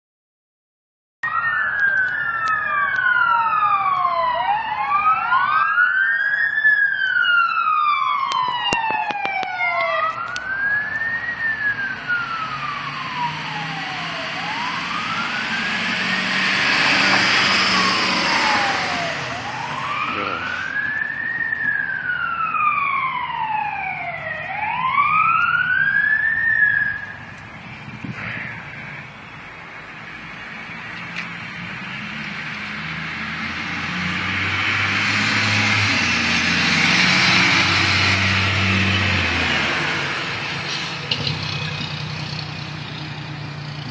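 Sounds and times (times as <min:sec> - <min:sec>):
wailing sirens: 0:01.2 - 0:43.9
vehicles passing by: 0:06.6 - 0:43.9.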